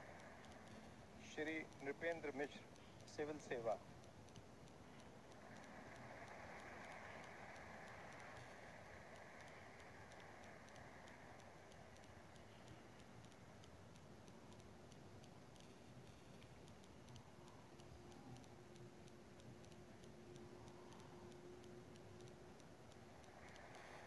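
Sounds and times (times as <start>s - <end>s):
light ticking: 0.0s - 24.0s.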